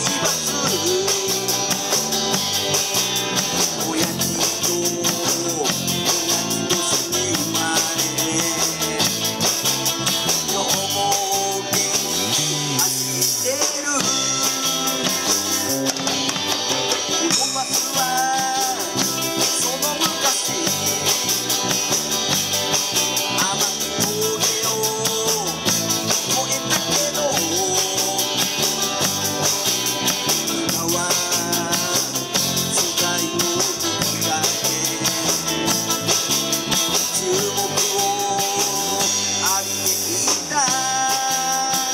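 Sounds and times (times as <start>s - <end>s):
drum kit with cymbals: 0.0s - 41.9s
electric bass: 0.0s - 41.9s
electric guitars: 0.0s - 41.9s
man singing: 0.0s - 41.9s.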